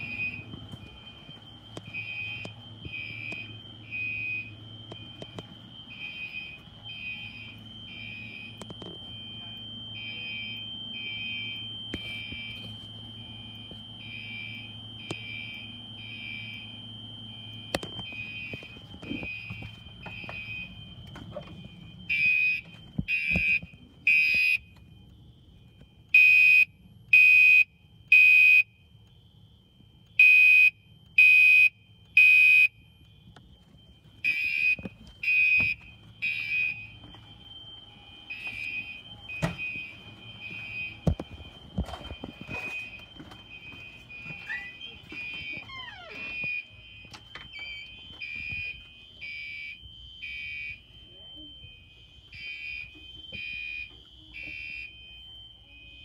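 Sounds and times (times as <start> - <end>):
smoke alarm beeping: 0.0 - 56.0.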